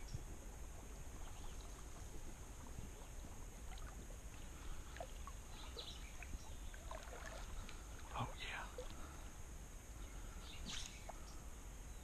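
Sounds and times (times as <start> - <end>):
water ticks and trickles on hull: 0.0 - 11.5
low steady rumble: 0.0 - 12.0.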